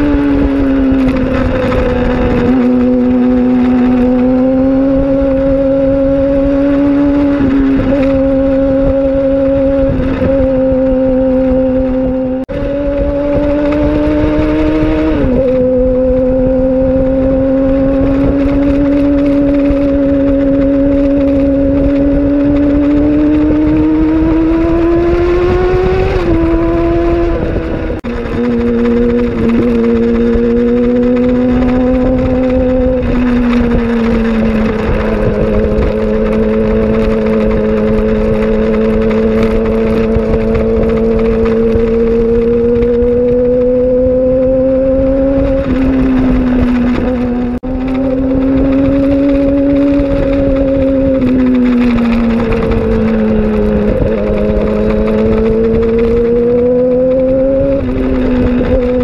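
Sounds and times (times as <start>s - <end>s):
motorcycle engine at high revs: 0.0s - 59.0s
wind noise: 0.0s - 59.0s.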